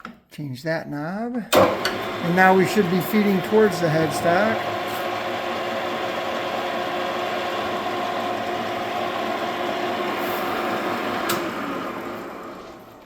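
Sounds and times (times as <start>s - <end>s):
lathe gear whine: 1.6s - 13.0s.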